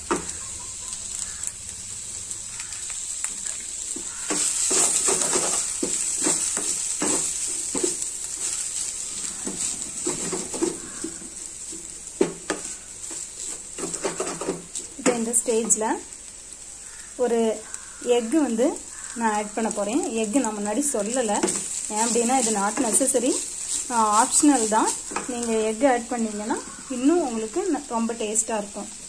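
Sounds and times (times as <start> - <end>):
food sizzling in a pan: 0.0 - 29.0
wooden spatula stirring and scraping: 2.6 - 15.9, 17.7 - 28.7.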